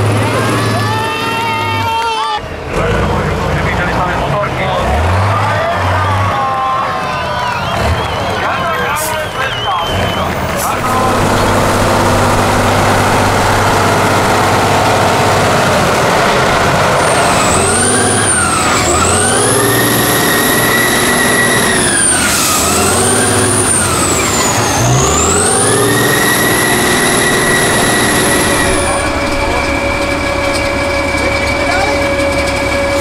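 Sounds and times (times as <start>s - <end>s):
diesel engine revving: 0.0s - 33.0s
high engine whine: 0.0s - 33.0s.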